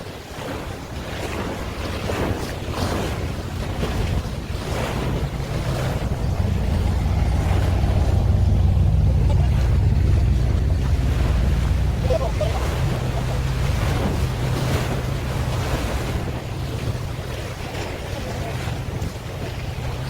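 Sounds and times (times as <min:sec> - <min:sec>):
water rushing: 0:00.0 - 0:20.0
boat engine running: 0:00.3 - 0:20.0
wind buffeting microphone: 0:00.4 - 0:20.0.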